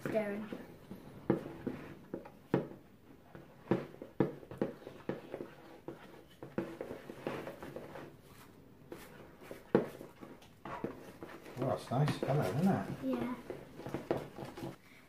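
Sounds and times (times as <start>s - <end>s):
utensil scraping mixing bowl: 0.0s - 14.8s.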